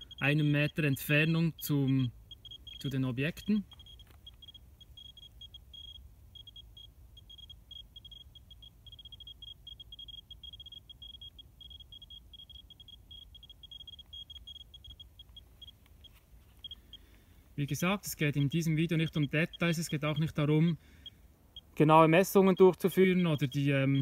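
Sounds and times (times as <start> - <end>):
geiger counter beeping rapidly: 0.0 - 17.0, 17.6 - 24.0.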